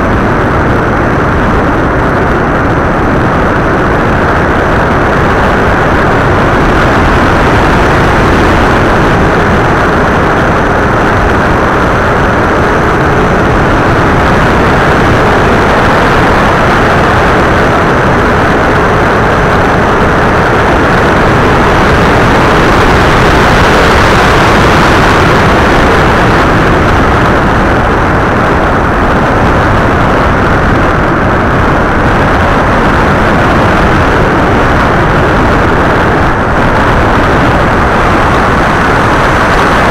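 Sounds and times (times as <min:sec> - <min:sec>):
wind and propeller noise: 0:00.0 - 0:39.9.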